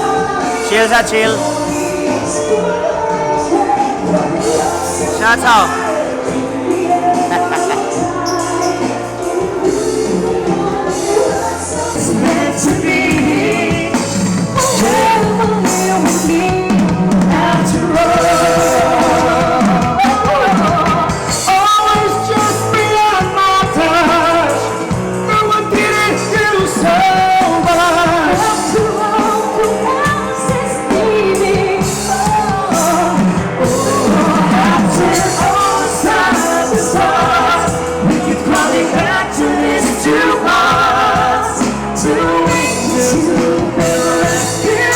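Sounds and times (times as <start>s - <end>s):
person singing: 0.0s - 44.9s
rock band playing: 0.0s - 44.9s
bass line: 3.7s - 9.2s, 10.0s - 44.9s.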